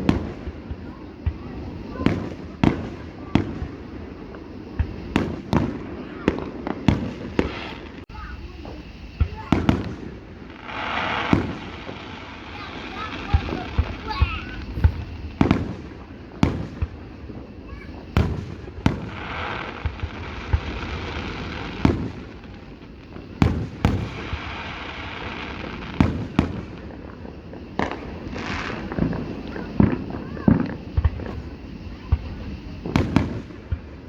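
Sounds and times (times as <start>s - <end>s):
firework booms: 0.0s - 34.0s
firework crackling hiss: 0.0s - 34.0s.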